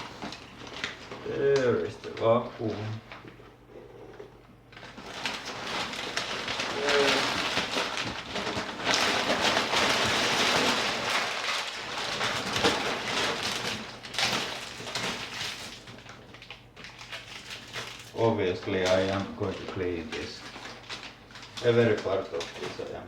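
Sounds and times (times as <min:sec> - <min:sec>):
packing material rustling: 0:00.0 - 0:03.4, 0:04.7 - 0:23.0.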